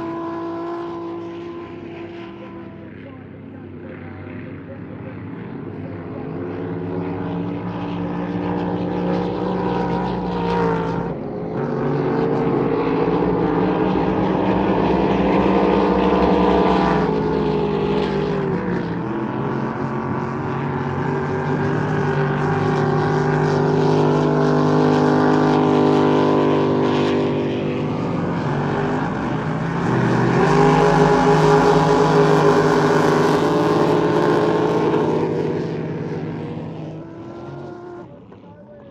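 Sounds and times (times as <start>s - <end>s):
motorboat engines racing: 0.0s - 38.9s.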